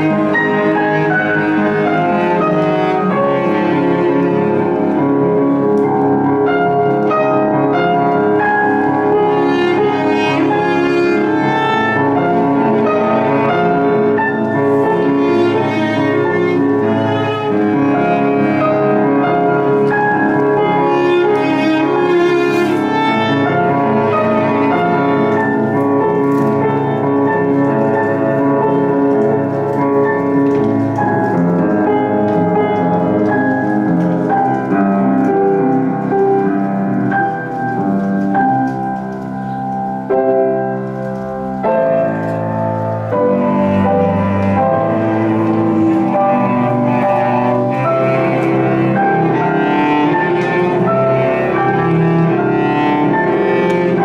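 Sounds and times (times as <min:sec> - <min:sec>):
cello bowed: 0:00.0 - 0:54.0
grand piano playing: 0:00.0 - 0:54.0.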